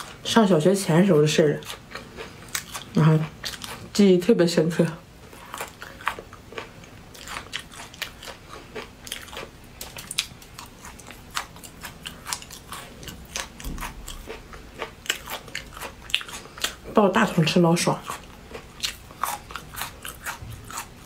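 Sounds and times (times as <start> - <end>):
person chewing crunchy food: 0.9 - 4.0, 5.2 - 21.0.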